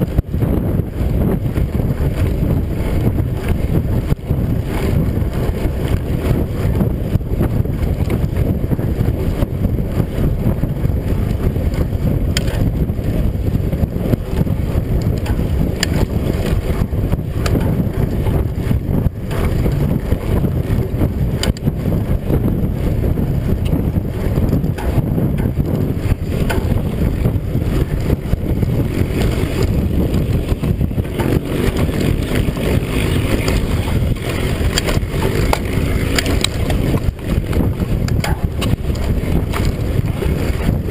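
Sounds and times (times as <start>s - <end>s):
bike clattering over bumps: 0.0s - 40.9s
bike tyre rumble: 0.0s - 40.9s
wind buffeting microphone: 0.0s - 40.9s.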